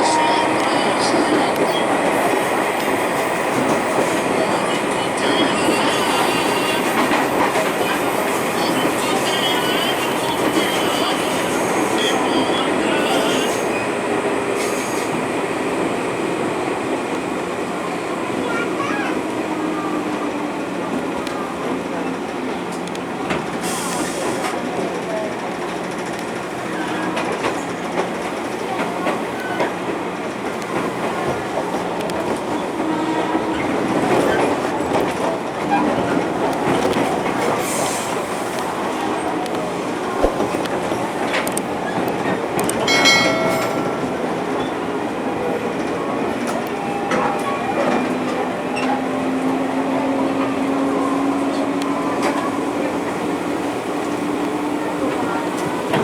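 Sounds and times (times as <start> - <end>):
train wheels clacking on rails: 0.1 - 56.0.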